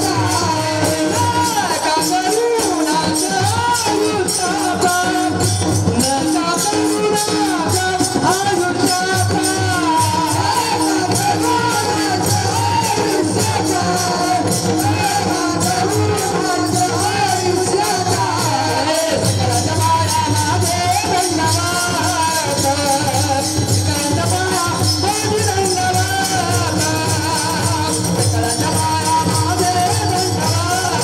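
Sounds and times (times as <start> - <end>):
barrel drum: 0.0 - 31.0
lead voice and chorus singing: 0.0 - 31.0.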